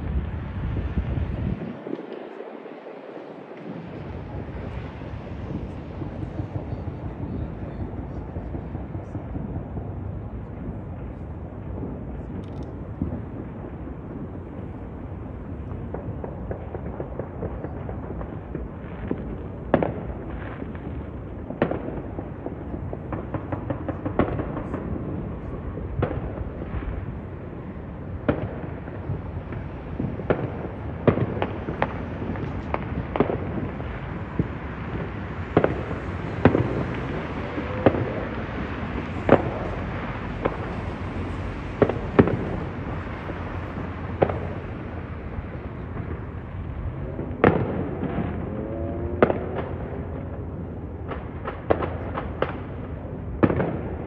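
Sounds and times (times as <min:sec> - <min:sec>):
fireworks bangs: 0:00.0 - 0:54.0
fireworks crackle and rumble: 0:00.0 - 0:54.0.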